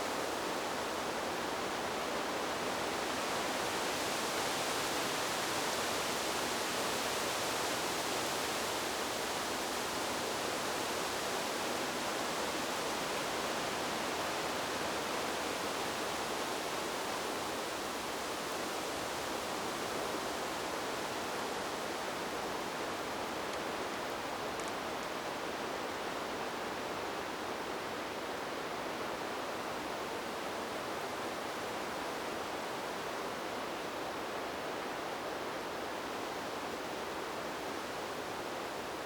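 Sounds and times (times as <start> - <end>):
wind blowing through trees: 0.0 - 39.0.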